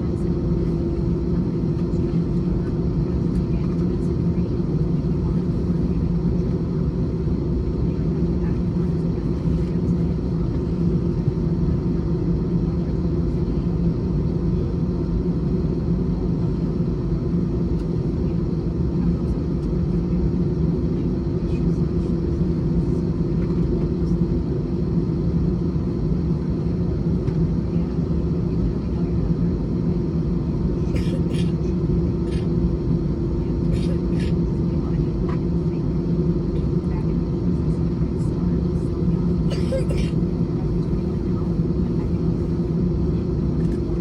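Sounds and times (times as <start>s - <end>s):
jet engine cabin drone: 0.0s - 44.0s.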